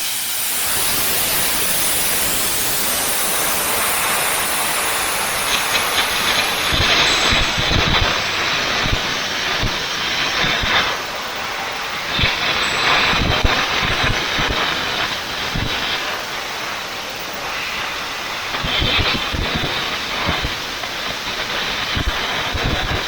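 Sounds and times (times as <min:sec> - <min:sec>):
arc crackling and popping: 0:00.0 - 0:23.0
compressed air hissing: 0:00.0 - 0:23.0.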